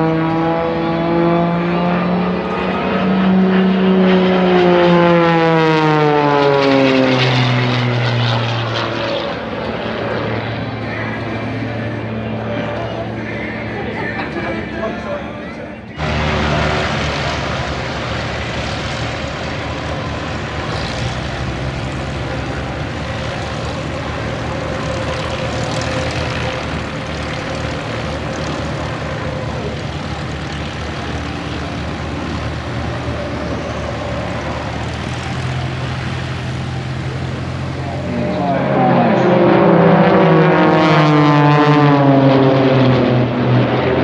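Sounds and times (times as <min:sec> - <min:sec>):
propeller aircraft engine drone: 0:00.0 - 0:44.0.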